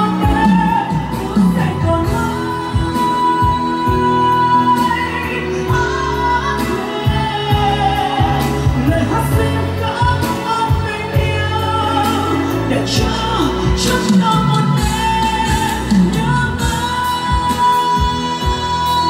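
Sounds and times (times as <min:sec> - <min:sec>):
amplified music with steady beat: 0:00.0 - 0:19.0
woman singing into a microphone: 0:00.0 - 0:19.0.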